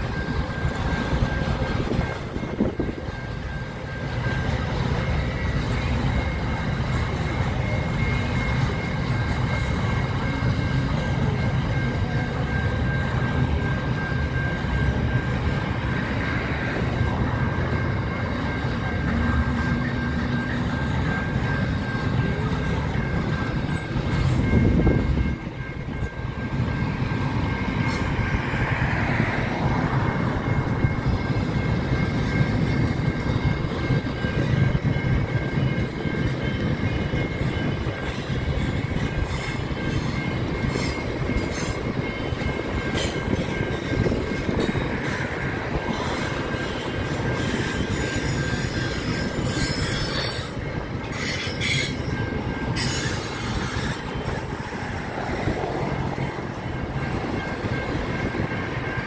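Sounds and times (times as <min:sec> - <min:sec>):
crossing bell ringing: 0:00.0 - 0:59.0
freight train wheels on rails: 0:00.0 - 0:59.0.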